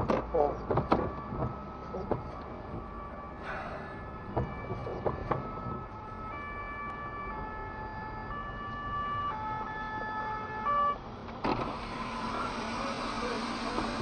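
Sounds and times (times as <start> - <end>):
two-tone emergency siren: 0.0 - 14.0.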